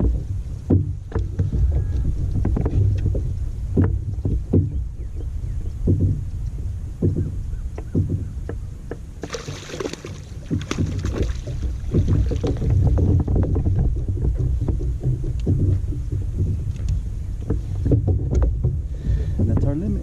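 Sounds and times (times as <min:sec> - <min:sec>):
small knocks and clicks: 0:00.0 - 0:20.0
water sloshing against kayak hull: 0:00.0 - 0:20.0
wind rumble on microphone: 0:00.0 - 0:20.0.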